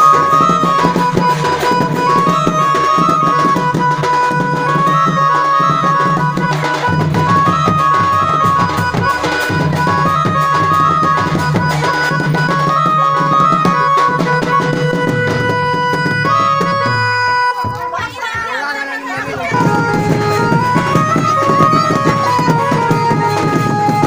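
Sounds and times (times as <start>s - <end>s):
busy drumming: 0.0s - 24.0s
repeated melodic phrase: 0.0s - 24.0s.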